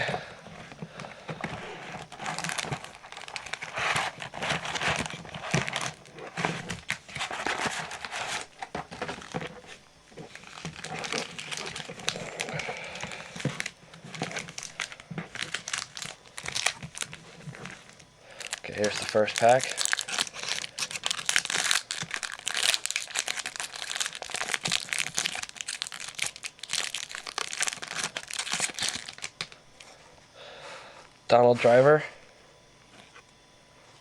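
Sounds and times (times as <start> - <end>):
plastic wrapping crinkling and tearing: 0.0 - 29.9.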